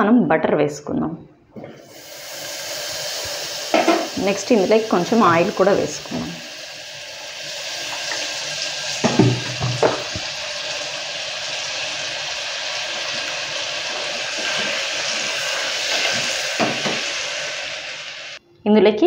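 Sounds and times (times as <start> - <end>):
butter sizzling in a pot: 1.8 - 18.4.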